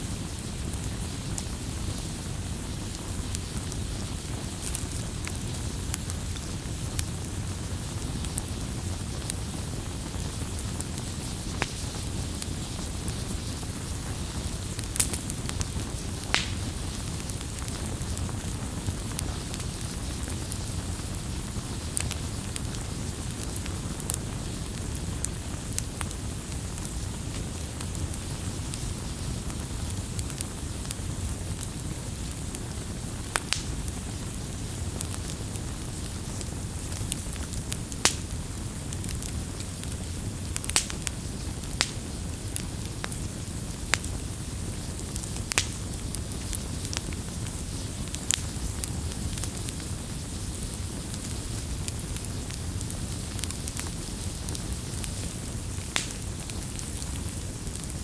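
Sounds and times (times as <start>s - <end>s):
fire crackles and pops: 0.0s - 58.0s
low rush of flame: 0.0s - 58.0s.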